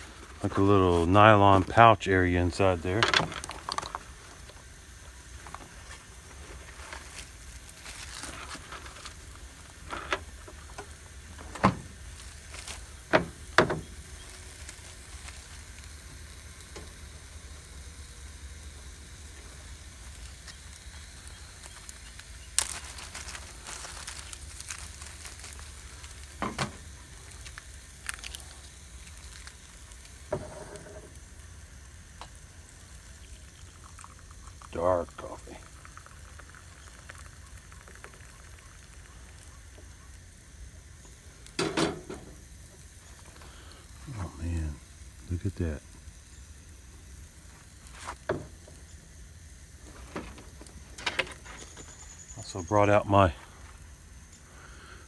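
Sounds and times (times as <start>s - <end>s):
sausages sizzling in a skillet: 0.0s - 55.0s.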